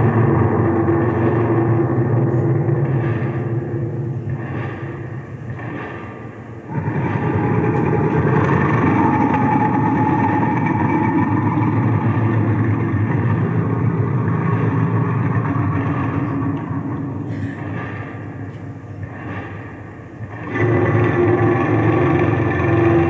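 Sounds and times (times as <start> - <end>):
loud harsh rumbling: 0.0 - 23.0.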